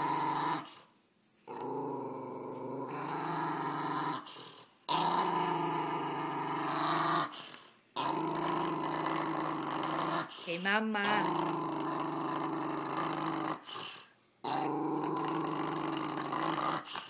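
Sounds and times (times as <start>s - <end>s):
small dog growling: 0.0s - 0.8s, 1.5s - 17.0s.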